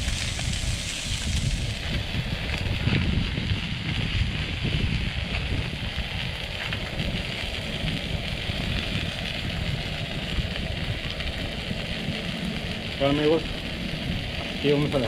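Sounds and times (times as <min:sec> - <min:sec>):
oil sizzling in a frying pan: 0:00.0 - 0:15.0
wind rumbling on microphone: 0:00.0 - 0:15.0.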